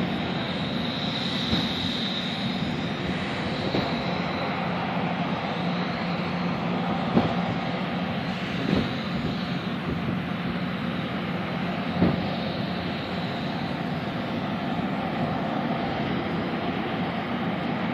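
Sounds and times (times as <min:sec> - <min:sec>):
diesel train engines droning: 0:00.0 - 0:17.9.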